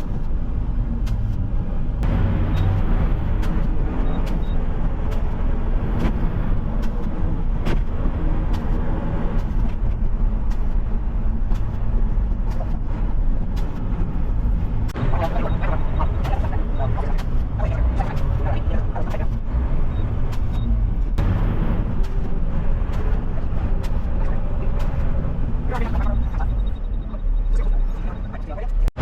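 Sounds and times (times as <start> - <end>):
garbage truck diesel engine: 0.0 - 29.0
road noise: 0.0 - 29.0.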